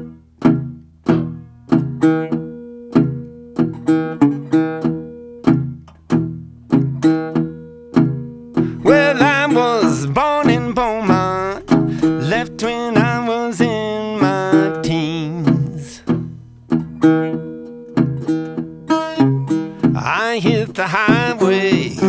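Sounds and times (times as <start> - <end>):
bending guitar melody: 0.0 - 22.0
blues guitar plucked chords: 0.0 - 22.0.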